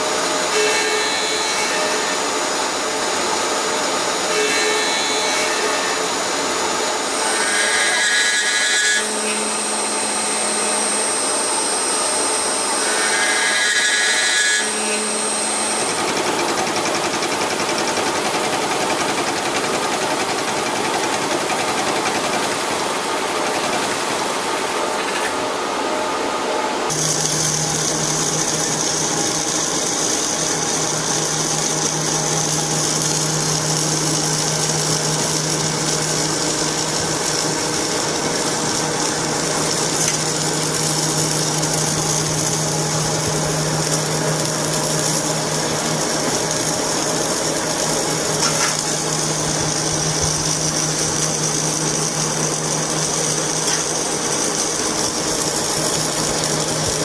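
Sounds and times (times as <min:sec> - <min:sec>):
machinery high whine: 0:00.0 - 0:57.0.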